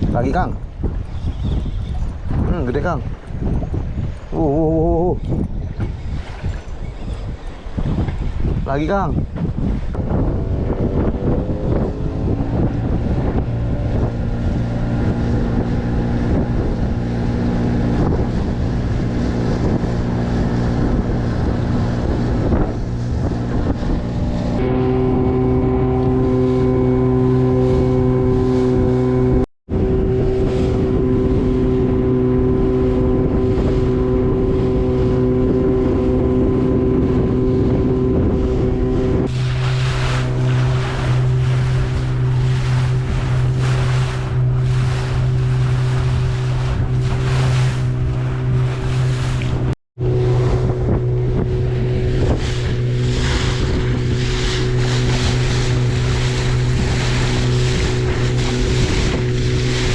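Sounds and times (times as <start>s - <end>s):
boat motor running: 0.0s - 59.9s
wind blowing on microphone: 0.0s - 59.9s.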